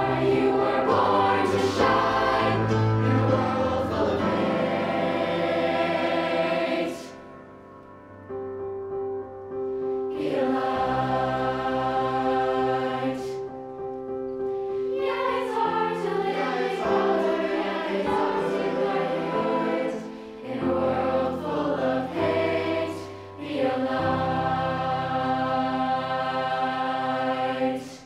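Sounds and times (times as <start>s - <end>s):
mixed choir singing chords: 0.0s - 7.6s, 9.9s - 13.8s, 14.5s - 28.0s.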